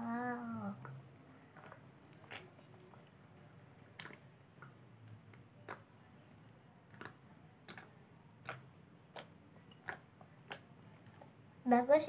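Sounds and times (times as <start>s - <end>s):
slime squishing: 0.0s - 11.9s.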